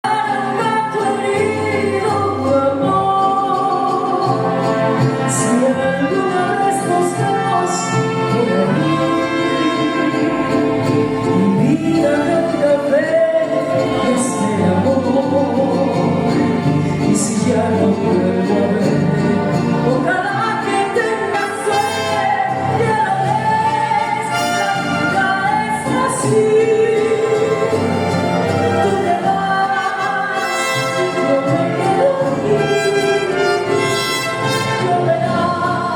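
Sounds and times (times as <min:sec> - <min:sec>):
woman singing a slow ballad: 0:00.1 - 0:04.5, 0:05.3 - 0:10.5, 0:11.4 - 0:16.1, 0:17.0 - 0:27.7, 0:28.8 - 0:33.5
orchestral accompaniment: 0:04.0 - 0:35.9.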